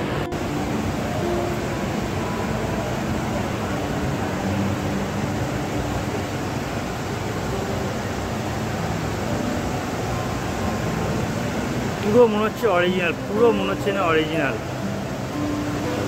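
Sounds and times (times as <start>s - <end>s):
even hall hum: 0.0s - 16.0s.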